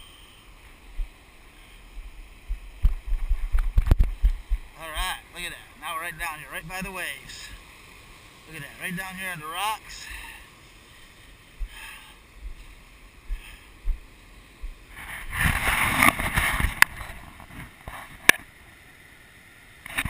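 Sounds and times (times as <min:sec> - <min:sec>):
surf crashing on rocks: 0:00.6 - 0:18.5.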